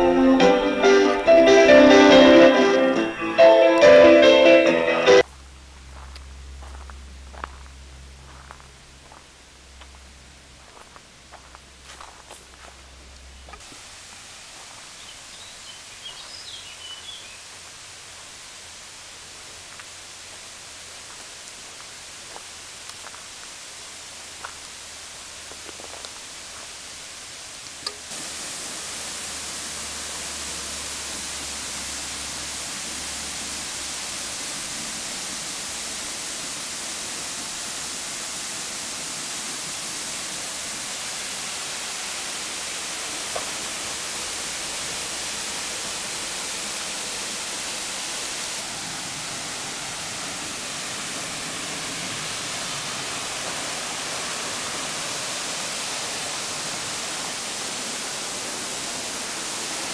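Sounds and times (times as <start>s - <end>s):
waterfall rushing: 0.0s - 5.3s, 5.9s - 59.9s.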